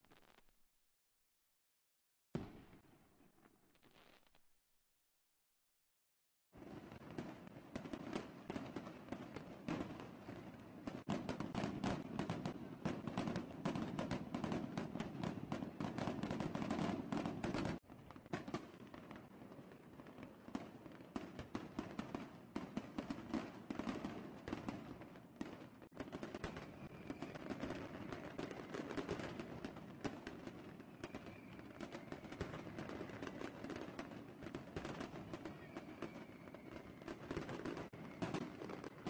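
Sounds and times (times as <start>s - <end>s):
fireworks bangs and crackles: 0.0s - 0.5s, 2.4s - 4.4s, 6.6s - 39.0s.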